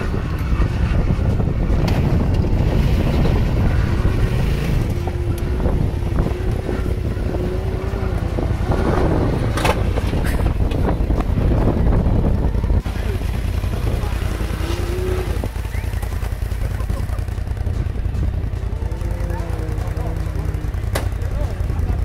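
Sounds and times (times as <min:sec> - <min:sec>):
utv engine running hard: 0:00.0 - 0:22.0
wind buffeting microphone: 0:00.0 - 0:22.0.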